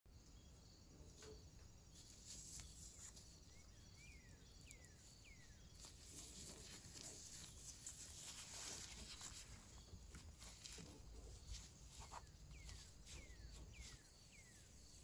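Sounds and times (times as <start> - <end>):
distant bird chirps: 0.1 - 15.0.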